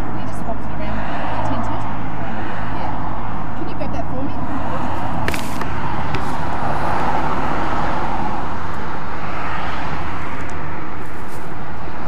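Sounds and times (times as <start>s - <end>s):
steady low rumble: 0.0s - 12.0s
vehicle approaching: 0.0s - 12.0s
car passing close by: 0.7s - 12.0s.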